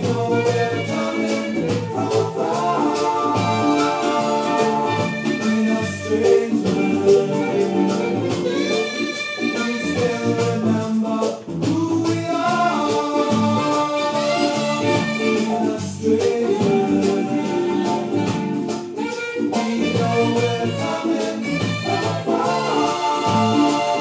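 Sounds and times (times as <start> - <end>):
reggae music from vinyl record: 0.0 - 24.0.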